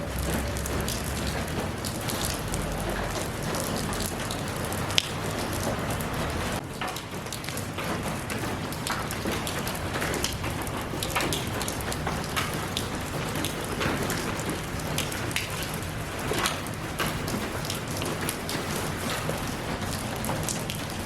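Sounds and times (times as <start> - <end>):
hiss of rainfall: 0.0 - 21.0
raindrops ticking on surface: 0.0 - 21.0.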